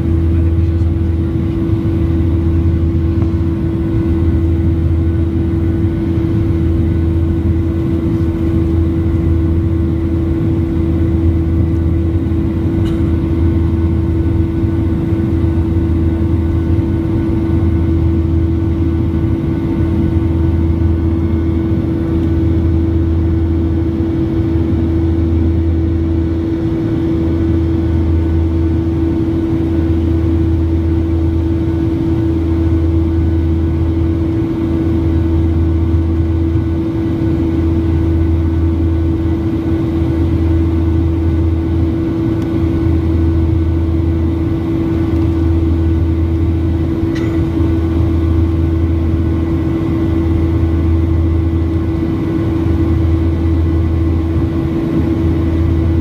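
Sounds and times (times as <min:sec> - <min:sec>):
jet engines droning: 0:00.0 - 0:56.0.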